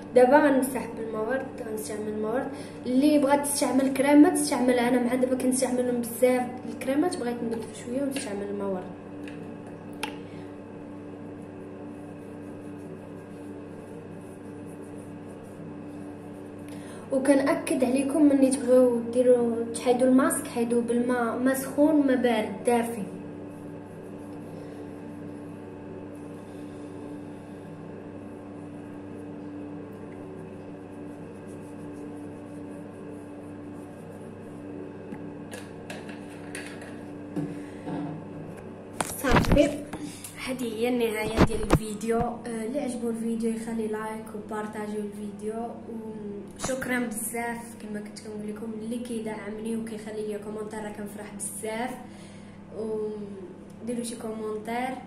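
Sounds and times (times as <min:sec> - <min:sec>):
background hum: 0:00.0 - 0:55.0.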